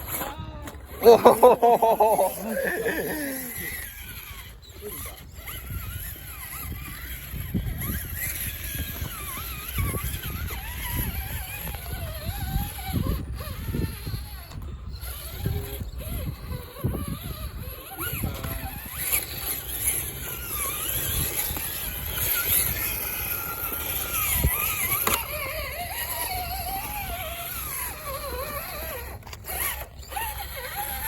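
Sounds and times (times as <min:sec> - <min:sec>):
electric motor whining: 0:00.0 - 0:31.0
chassis creaks and clunks: 0:02.6 - 0:31.0.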